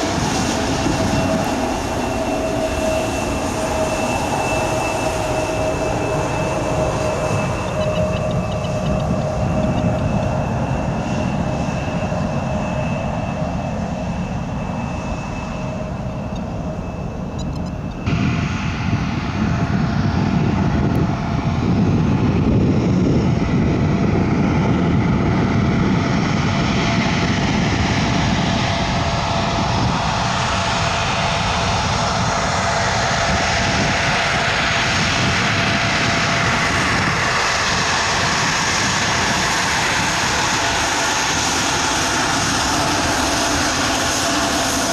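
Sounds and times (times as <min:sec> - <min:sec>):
aircraft engine noise: 0:00.0 - 0:44.9
airliner engines whining: 0:00.0 - 0:44.9.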